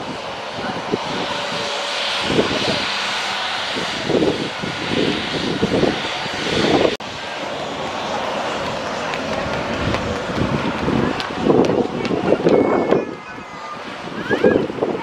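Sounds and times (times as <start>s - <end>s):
airliner engine hiss and rumble: 0.0s - 15.0s.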